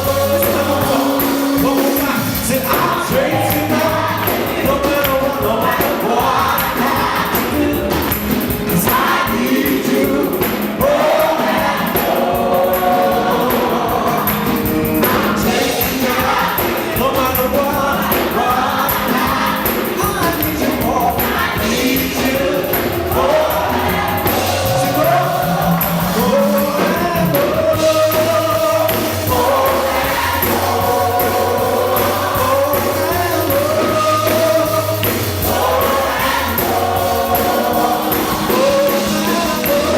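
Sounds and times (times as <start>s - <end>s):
band playing: 0.0s - 39.9s
choir singing gospel: 0.0s - 39.9s.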